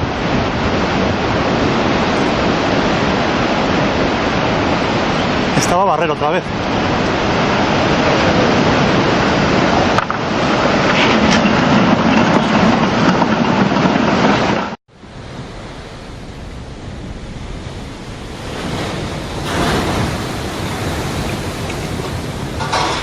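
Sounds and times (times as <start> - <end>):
storm surf: 0.0 - 23.0
wind noise on microphone: 0.0 - 23.0.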